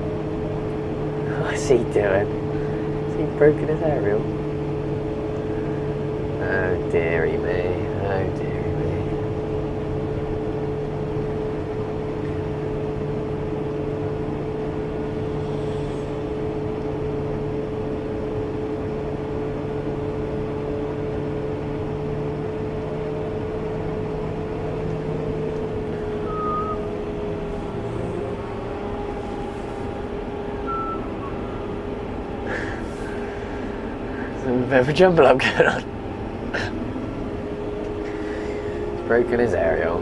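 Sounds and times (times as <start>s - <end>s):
steady whine: 0.0s - 40.0s
tractor engine drone: 0.0s - 40.0s.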